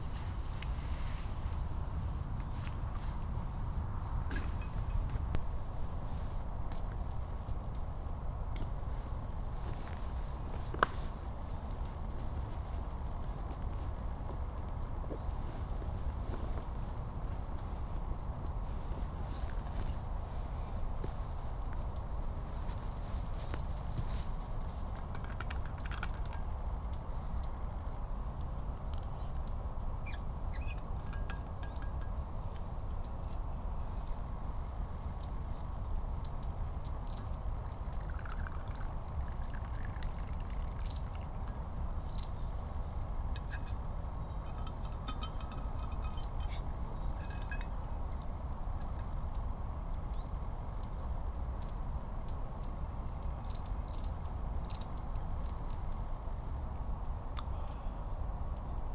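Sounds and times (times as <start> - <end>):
low background rumble: 0.0 - 58.9
small birds chirping: 4.4 - 58.9.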